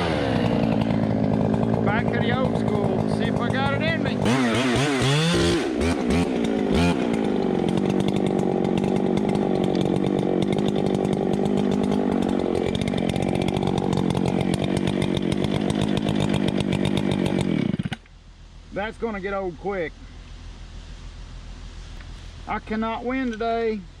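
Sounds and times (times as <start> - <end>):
chainsaw revving and idling: 0.0 - 19.4.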